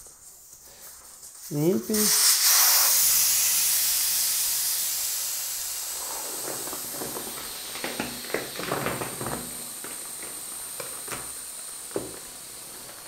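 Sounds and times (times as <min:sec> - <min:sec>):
air hissing from tyre valve: 0:00.0 - 0:13.0.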